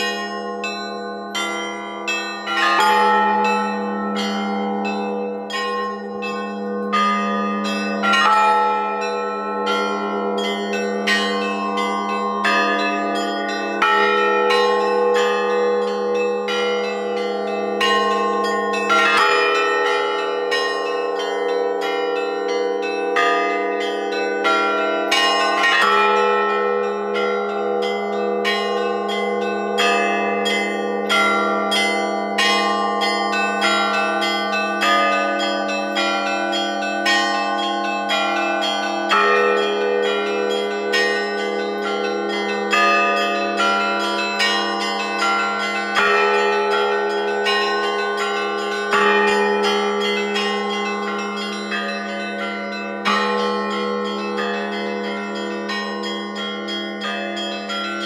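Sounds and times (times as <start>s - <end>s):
hum of large bells: 0.0s - 58.0s.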